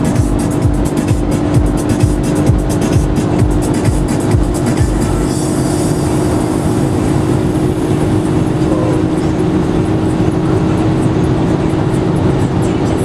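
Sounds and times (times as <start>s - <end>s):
car engine droning: 0.0s - 13.0s
road and wind noise: 0.0s - 13.0s.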